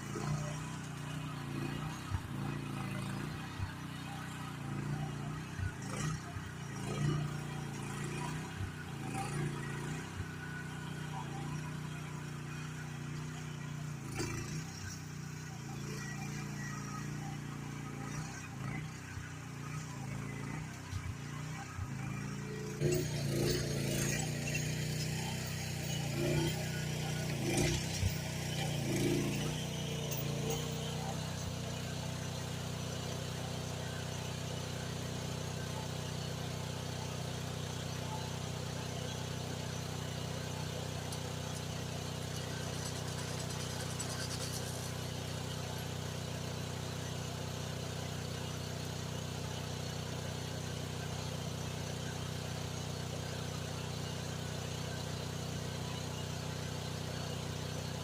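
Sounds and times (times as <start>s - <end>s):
mini excavator engine running: 0.0s - 58.0s.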